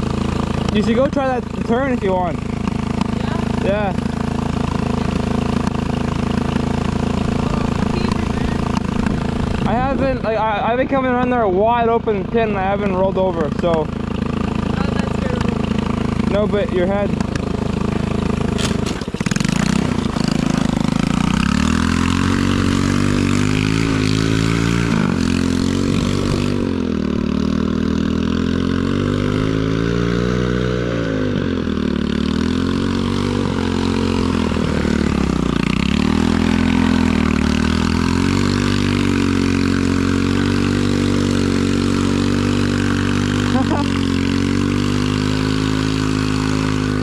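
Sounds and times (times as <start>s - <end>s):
atv engine revving: 0.0s - 47.0s.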